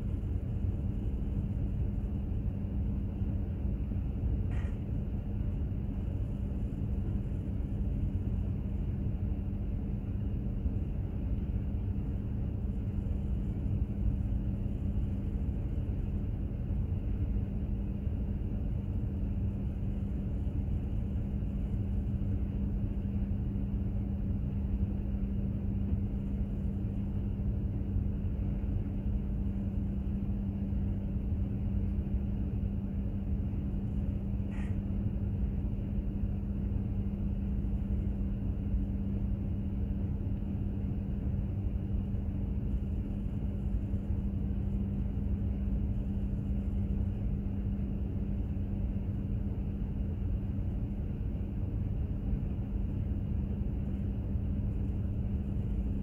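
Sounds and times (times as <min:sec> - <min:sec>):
constant hum: 0:00.0 - 0:56.0.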